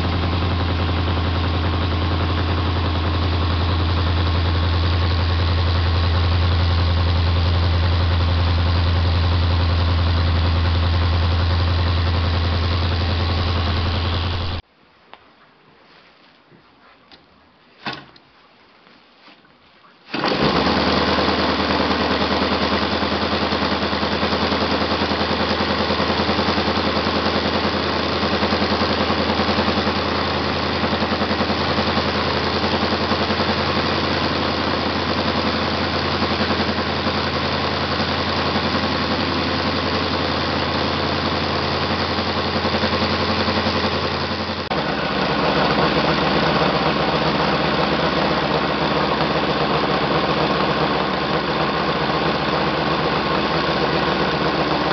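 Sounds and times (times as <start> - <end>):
model engine running: 0.0 - 14.6, 20.1 - 54.9.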